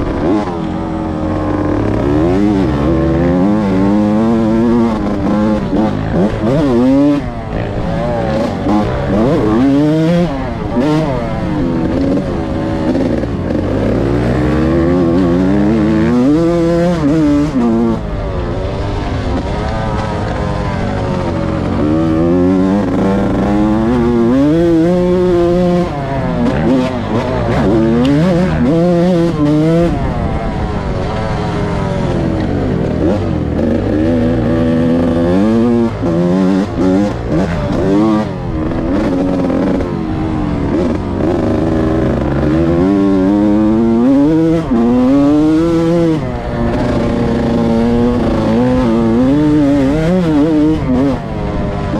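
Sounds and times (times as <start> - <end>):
two-stroke engine revving: 0.0 - 51.9.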